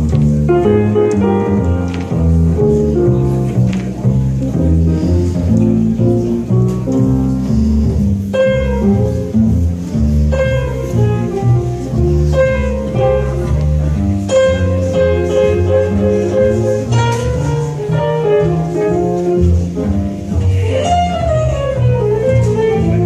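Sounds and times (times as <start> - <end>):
higher plucked notes: 0.0 - 23.0
plucked bass line: 0.0 - 23.0.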